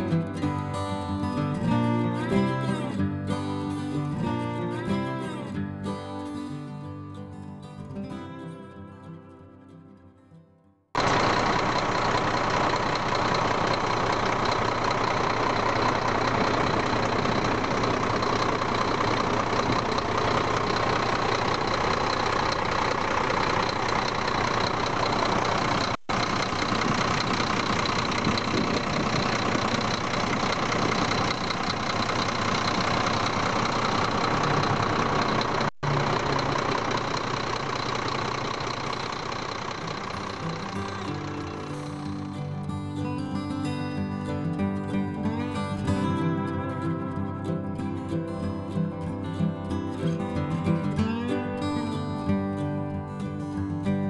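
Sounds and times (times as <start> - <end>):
diesel truck engine running: 0.0 - 2.8, 11.0 - 53.6.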